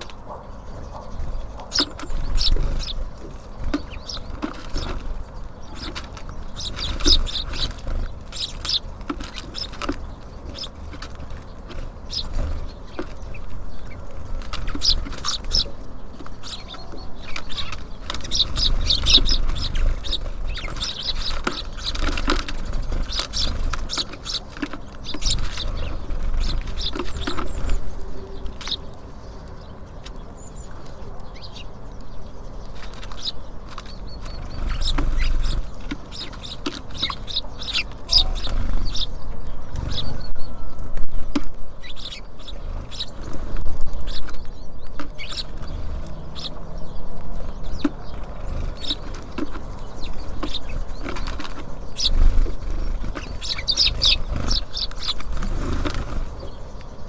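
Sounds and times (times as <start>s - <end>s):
birds pecking and tapping: 0.0s - 57.0s
songbirds chirping: 0.0s - 57.0s.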